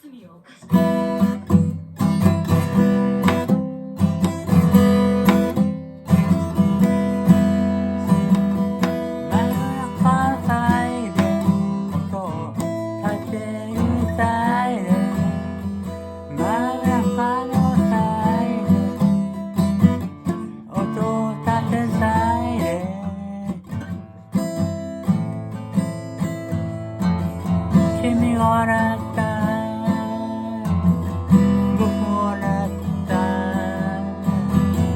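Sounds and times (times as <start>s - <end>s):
acoustic guitar strumming: 0.6s - 34.9s.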